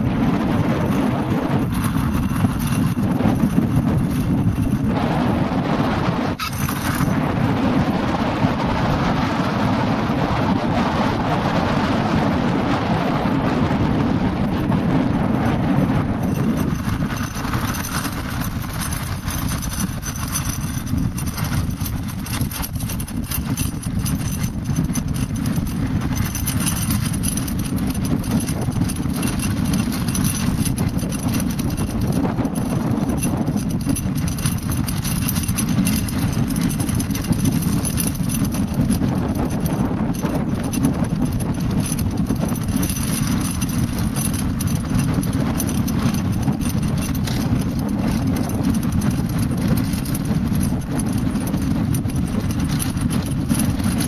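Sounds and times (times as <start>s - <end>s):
board wheels rolling on hard ground: 0.0s - 54.0s
wind buffeting microphone: 0.0s - 54.0s.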